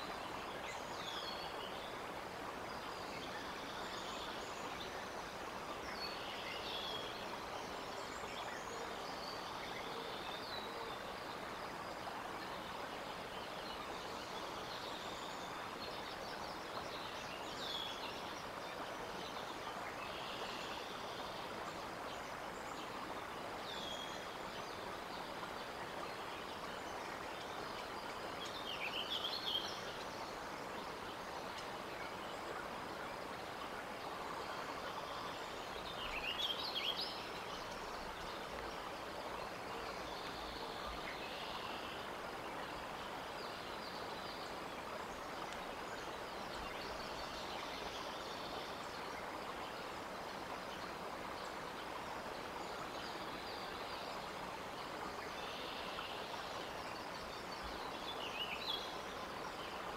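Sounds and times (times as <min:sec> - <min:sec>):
outdoor background hiss: 0:00.0 - 0:59.9.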